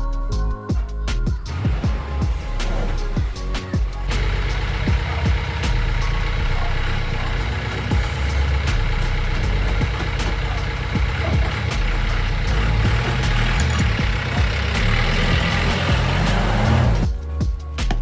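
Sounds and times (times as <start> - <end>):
background music with a beat: 0.0 - 18.0
engine low rumble: 1.3 - 18.0.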